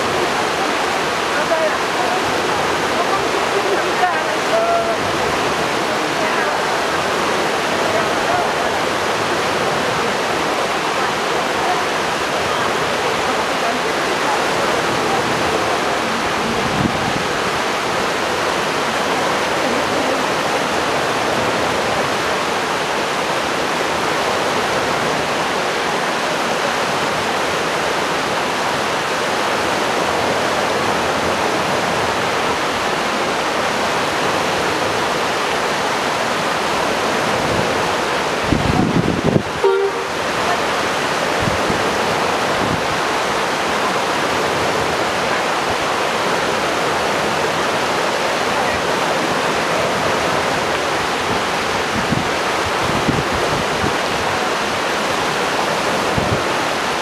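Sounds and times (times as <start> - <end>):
stream babbling: 0.0 - 57.0.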